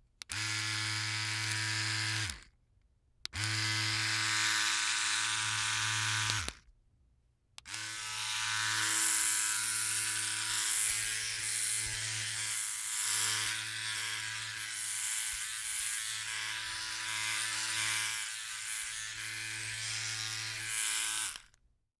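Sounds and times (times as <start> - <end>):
electric shaver buzzing: 0.3 - 2.4, 3.4 - 6.6, 7.7 - 21.6.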